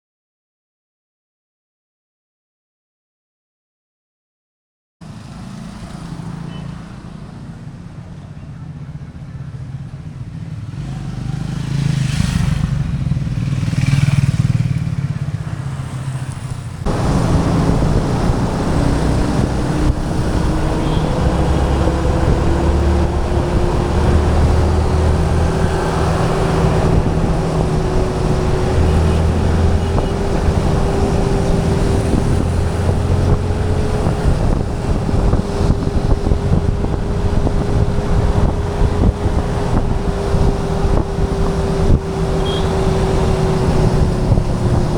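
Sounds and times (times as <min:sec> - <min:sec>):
wind and road noise: 0:05.0 - 0:44.9
motorcycle engine running: 0:08.3 - 0:44.9.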